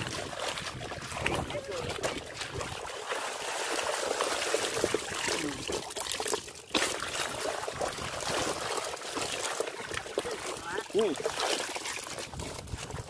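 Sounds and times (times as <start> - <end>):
muddy water trickling and splashing: 0.0 - 13.0.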